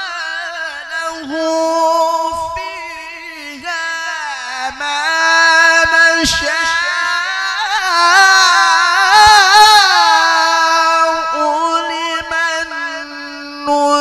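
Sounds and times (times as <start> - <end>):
man chanting melodic recitation: 0.0 - 14.0.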